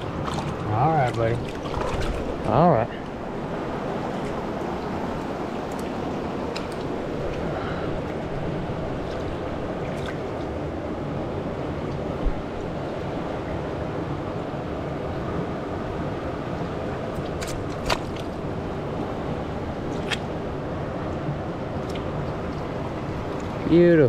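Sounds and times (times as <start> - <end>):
river water flowing over rocks: 0.0 - 24.0.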